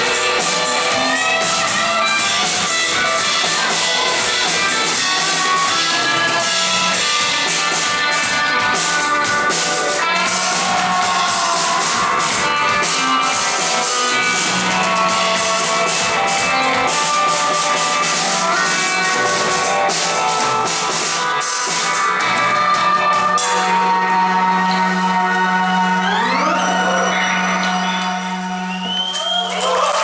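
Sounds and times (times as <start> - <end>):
drum kit with cymbals: 0.0 - 26.1
electric guitars: 0.0 - 30.0.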